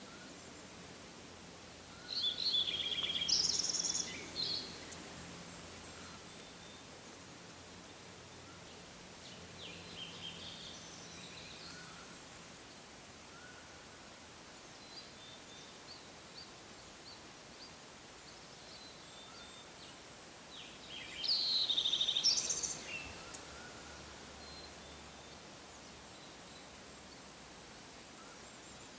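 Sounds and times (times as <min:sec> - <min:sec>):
faint steady hiss: 0:00.0 - 0:28.9
songbirds chirping: 0:00.0 - 0:28.9.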